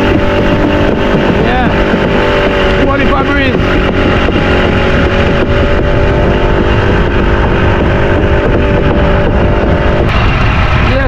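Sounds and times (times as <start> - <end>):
outboard motor running: 0.0 - 11.0
wind buffeting microphone: 0.0 - 11.0.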